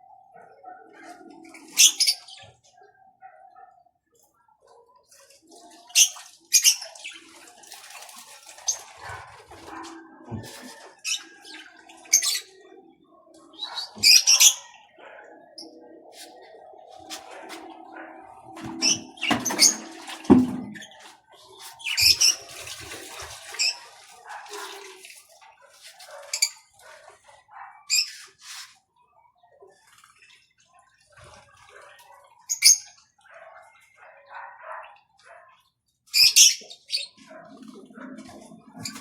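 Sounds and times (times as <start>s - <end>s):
birds splashing in water: 5.0s - 15.0s, 15.6s - 28.8s, 29.6s - 39.0s.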